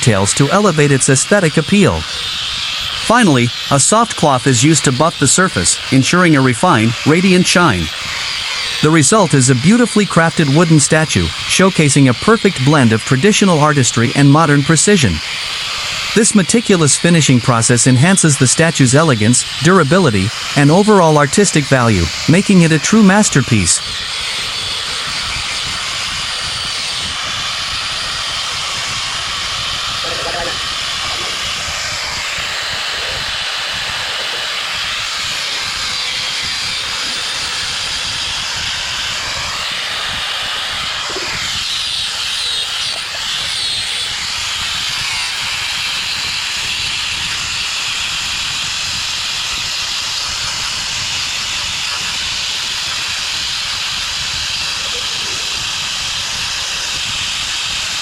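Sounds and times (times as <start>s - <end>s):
steady hissing noise: 0.0s - 58.0s.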